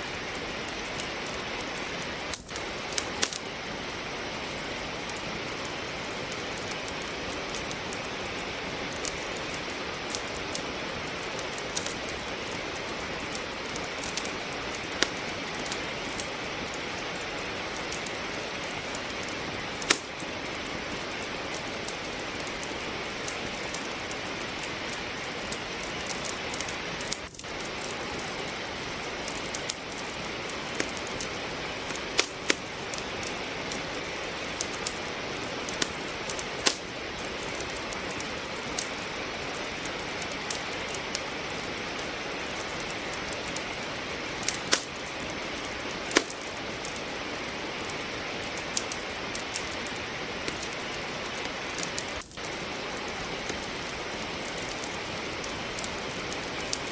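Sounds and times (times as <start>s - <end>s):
rain hiss: 0.0s - 56.9s
wood fire crackling: 0.0s - 56.9s.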